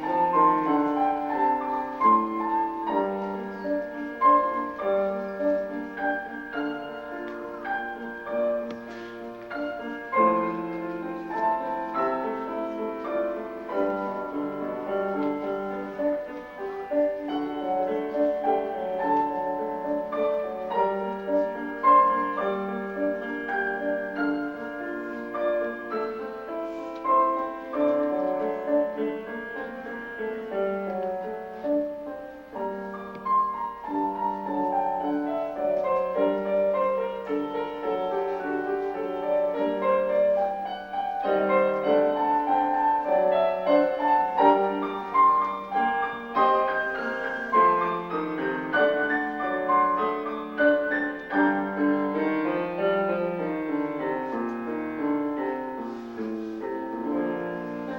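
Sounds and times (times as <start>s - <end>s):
piano music: 0.0s - 57.9s.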